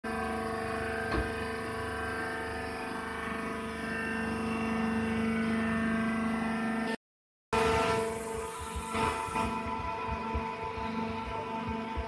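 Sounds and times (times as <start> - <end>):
hydraulic motor and pump hum: 0.1 - 7.0, 7.6 - 12.0.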